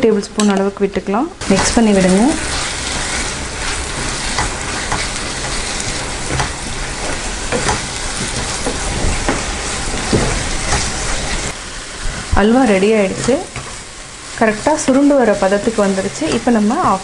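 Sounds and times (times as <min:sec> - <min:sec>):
halwa sizzling and bubbling: 0:01.3 - 0:17.0
wooden spatula scraping pan: 0:01.5 - 0:17.0.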